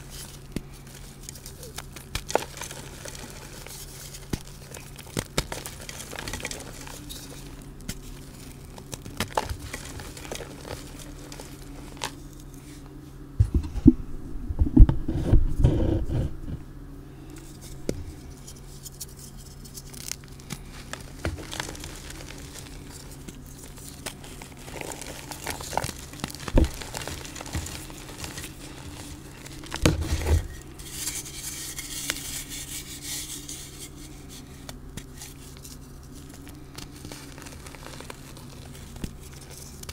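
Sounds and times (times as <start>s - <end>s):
hands crushing chalk: 0.0s - 12.8s, 17.4s - 39.9s.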